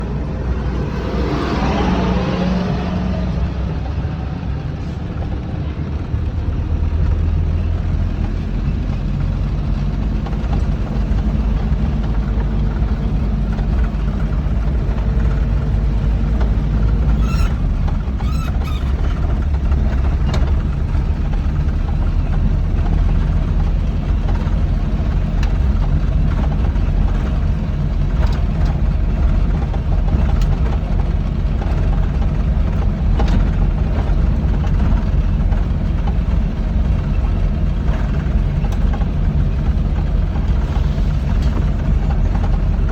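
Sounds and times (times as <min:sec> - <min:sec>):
combine harvester engine running: 0:00.0 - 0:42.9.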